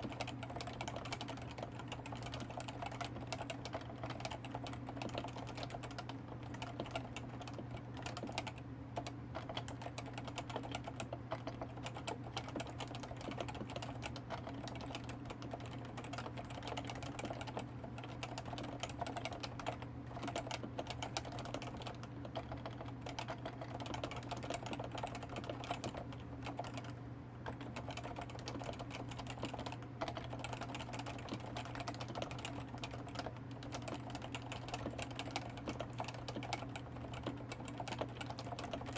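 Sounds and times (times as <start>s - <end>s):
continuous keyboard typing: 0.0s - 38.9s.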